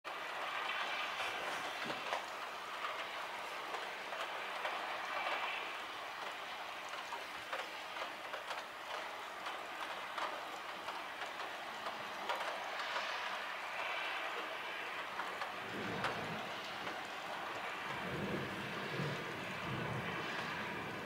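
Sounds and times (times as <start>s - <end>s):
heavy rain hissing: 0.1s - 21.0s
raindrops tapping nearby: 0.1s - 21.0s.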